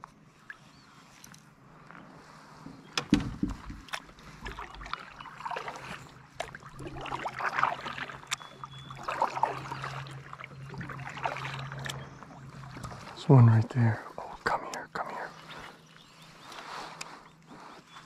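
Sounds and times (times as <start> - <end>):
paddle swishing through water: 0.2 - 18.0.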